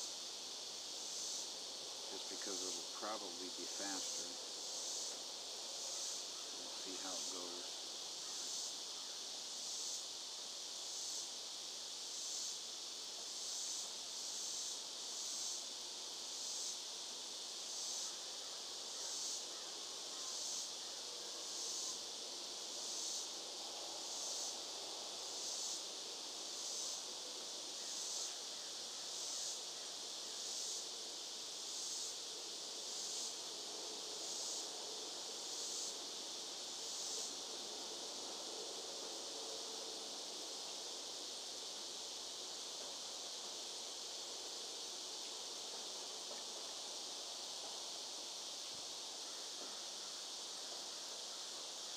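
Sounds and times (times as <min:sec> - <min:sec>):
insects buzzing in chorus: 0:00.0 - 0:51.9.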